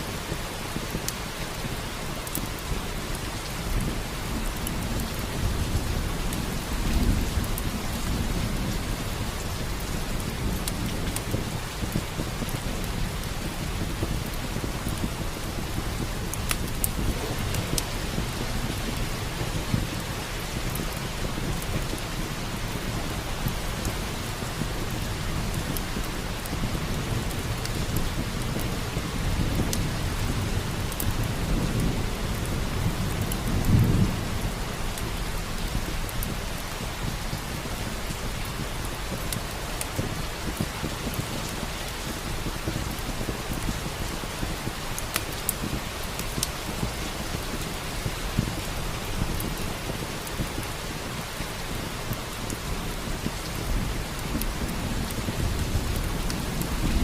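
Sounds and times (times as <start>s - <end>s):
steady rain: 0.0s - 57.0s
wood fire crackling: 0.0s - 57.0s
low rumble of thunder: 0.2s - 57.0s.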